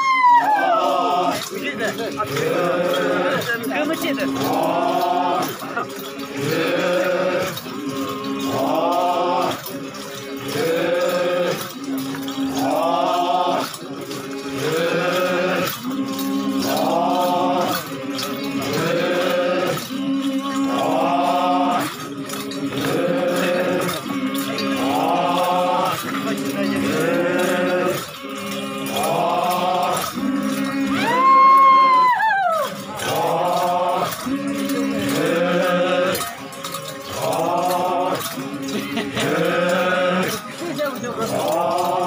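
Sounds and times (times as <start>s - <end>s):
men chanting: 0.0s - 42.0s.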